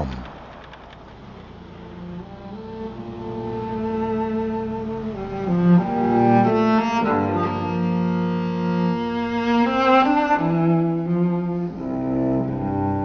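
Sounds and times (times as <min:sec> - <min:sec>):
slow bowed string music: 0:01.2 - 0:13.0
cello long low notes: 0:01.5 - 0:13.0.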